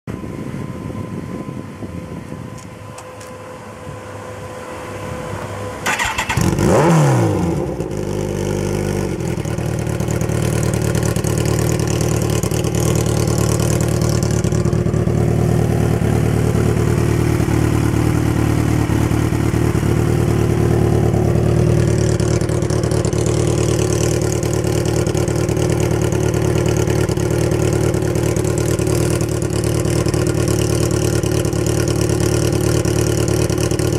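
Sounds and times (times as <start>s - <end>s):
motorcycle engine starting and idling: 5.8s - 33.9s.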